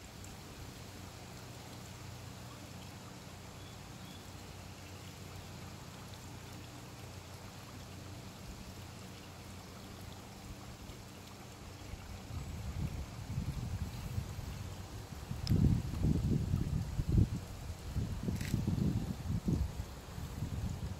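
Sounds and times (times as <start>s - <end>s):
low steady hum: 0.0s - 20.9s
pool water trickling: 0.0s - 20.9s.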